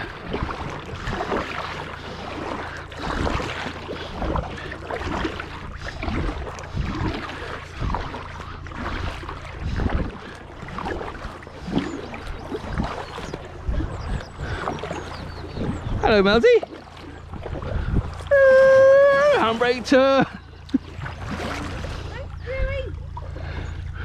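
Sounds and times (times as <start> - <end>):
paddle strokes: 0.0 - 24.0
steady low rumble: 0.0 - 24.0
water splashing: 0.0 - 24.0.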